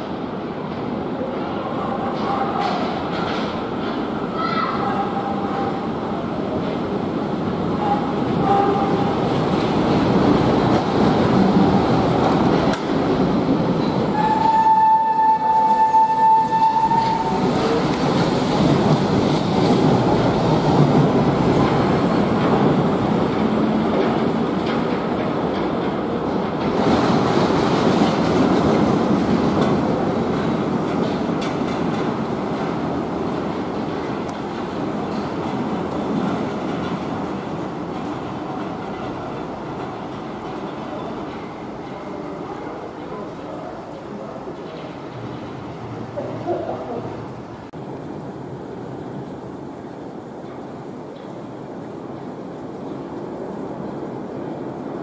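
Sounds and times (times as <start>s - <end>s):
monorail wheels rumbling on rail: 0.0s - 55.0s.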